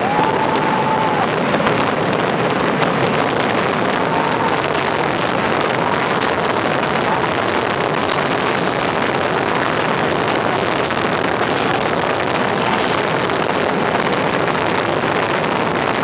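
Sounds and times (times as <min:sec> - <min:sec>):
rocket bangs merging into rumble: 0:00.0 - 0:16.0
sharp firework cracks: 0:00.0 - 0:16.0.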